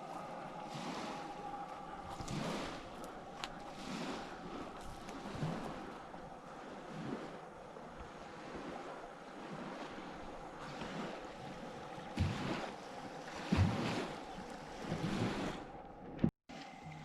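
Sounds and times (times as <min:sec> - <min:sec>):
wind buffeting microphone: 0:00.0 - 0:16.3
small waves lapping on shore: 0:00.0 - 0:17.0.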